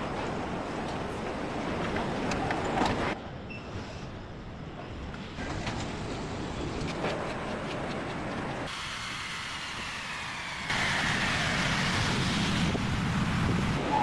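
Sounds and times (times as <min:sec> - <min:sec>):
factory machinery noise: 0:00.0 - 0:14.0.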